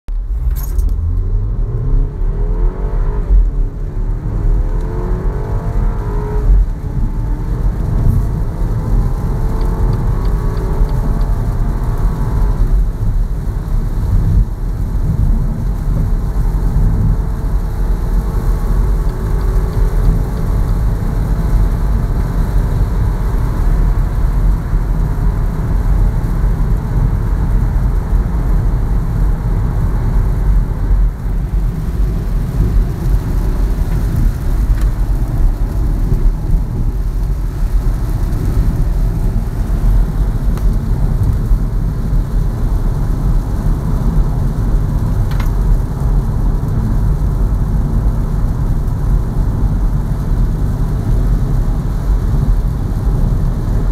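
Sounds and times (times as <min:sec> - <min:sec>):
car engine accelerating: 0:00.1 - 0:53.9
road and tyre rumble: 0:00.1 - 0:53.9.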